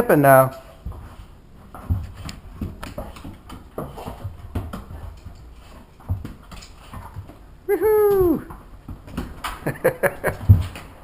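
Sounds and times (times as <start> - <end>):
animals scuffling and scrabbling: 0.0 - 7.7, 8.5 - 11.0.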